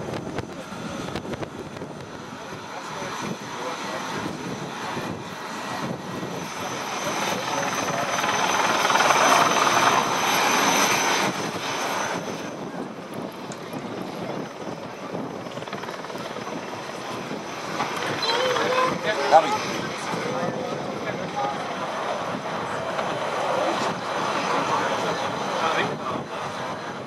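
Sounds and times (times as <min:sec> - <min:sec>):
aircraft engine passing: 0:00.0 - 0:27.0.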